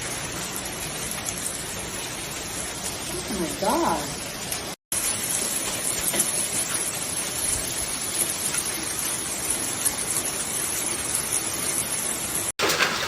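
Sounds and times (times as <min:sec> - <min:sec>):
faint hail hits: 0:00.0 - 0:13.0
hail and rain falling hard: 0:00.0 - 0:13.0.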